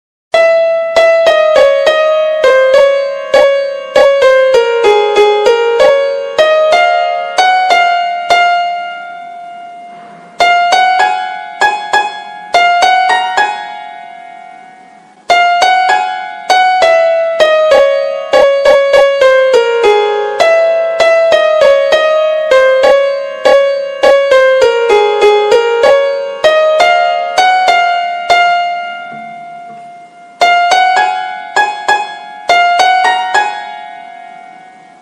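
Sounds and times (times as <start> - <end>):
piano-like keyboard melody: 0.3 - 35.0.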